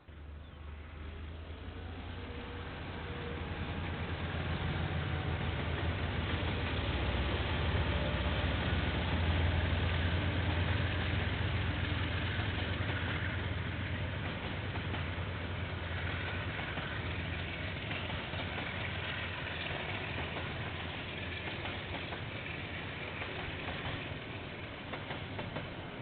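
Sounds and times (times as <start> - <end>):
diesel locomotive engine rumbling: 0.0 - 26.0.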